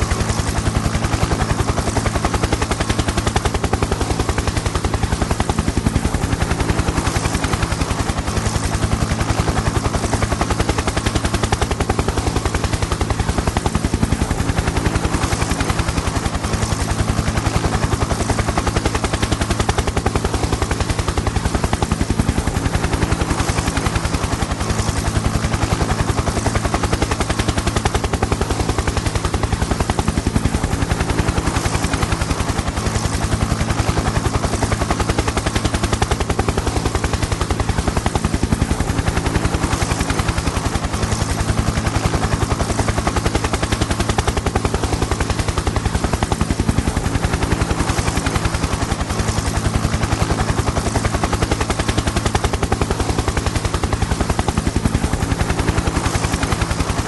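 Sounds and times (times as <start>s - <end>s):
helicopter engine hum: 0.0s - 57.0s
helicopter rotor beat: 0.0s - 57.0s.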